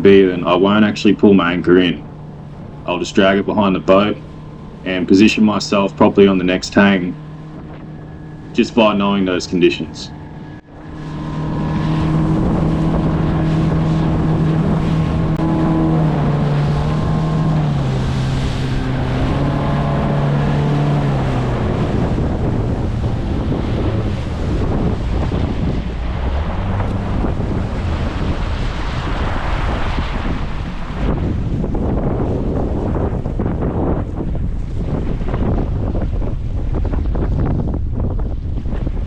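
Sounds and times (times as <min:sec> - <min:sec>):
outboard motor running: 0:00.0 - 0:39.0
water splashing against hull: 0:00.0 - 0:39.0
wind buffeting microphone: 0:00.0 - 0:39.0.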